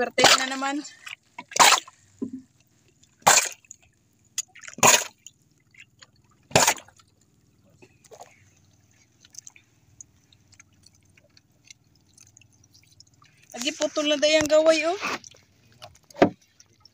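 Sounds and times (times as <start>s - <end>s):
water drips and slaps: 0.0s - 16.9s
water splashing against boat hull: 0.0s - 16.9s.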